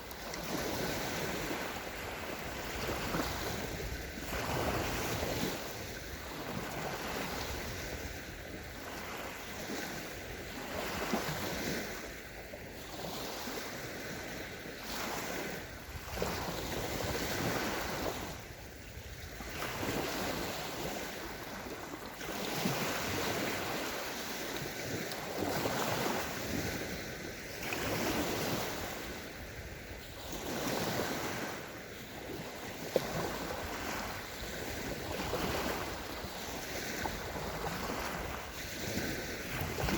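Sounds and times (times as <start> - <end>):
small waves breaking on shore: 0.0 - 39.9
wind on microphone: 0.0 - 39.9.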